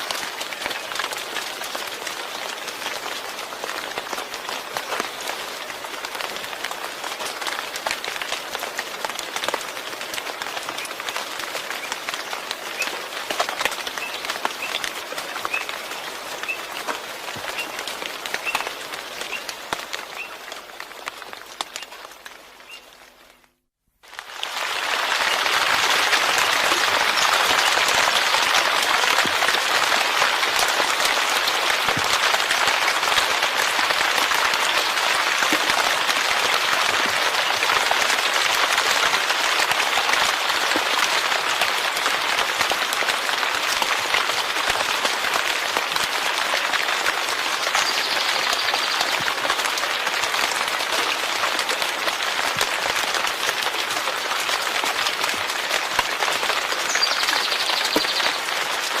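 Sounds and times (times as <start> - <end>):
heavy rain patter: 0.0 - 59.0.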